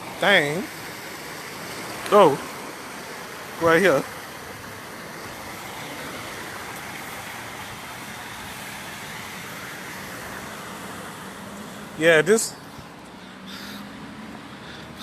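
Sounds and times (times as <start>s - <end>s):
car driving through water: 0.0s - 15.0s.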